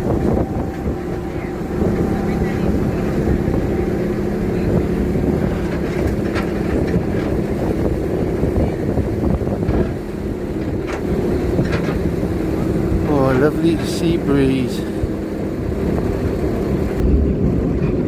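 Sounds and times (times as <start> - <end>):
ferry engine humming: 0.0 - 18.0
wind buffeting microphone: 0.0 - 18.0.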